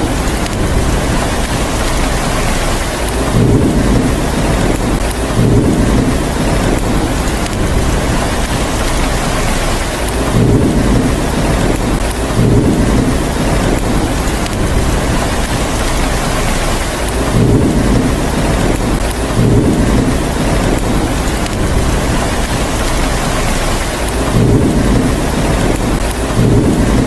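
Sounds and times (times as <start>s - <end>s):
steady rain: 0.0s - 27.0s
thunder rumbling: 0.0s - 27.0s.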